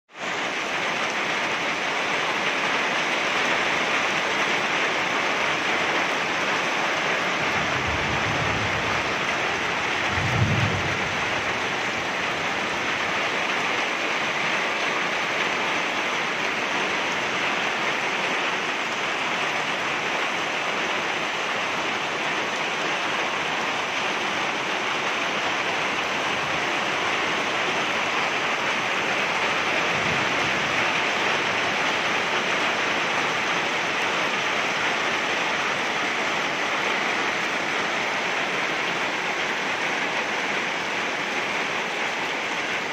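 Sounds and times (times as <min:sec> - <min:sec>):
rain on wet pavement: 0:00.1 - 0:42.9.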